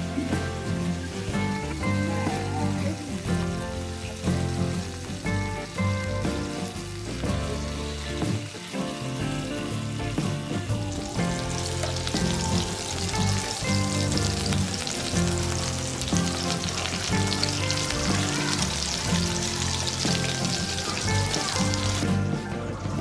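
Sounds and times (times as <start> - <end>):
background music: 0.0 - 23.0
pork sizzling in hot fat: 0.0 - 23.0.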